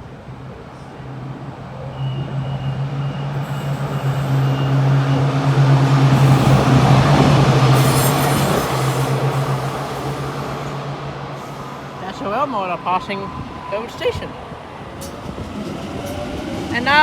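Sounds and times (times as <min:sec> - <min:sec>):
train passing with low drone: 0:00.0 - 0:17.0.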